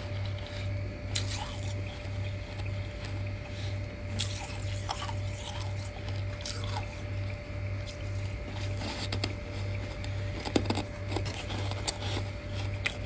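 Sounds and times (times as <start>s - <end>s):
pulsing low hum: 0.0s - 13.0s.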